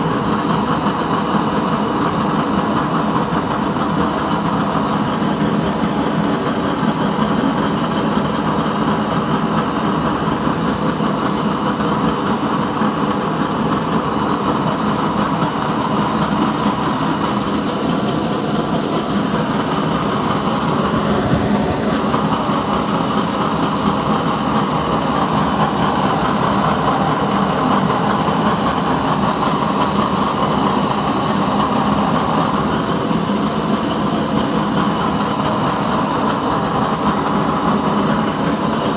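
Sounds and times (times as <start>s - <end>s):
oil stove burners rushing: 0.0s - 38.9s.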